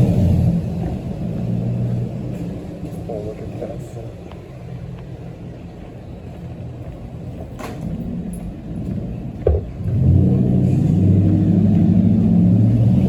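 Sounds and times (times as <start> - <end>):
city traffic rumble: 0.0 - 13.0
vehicle engine droning: 0.0 - 13.0.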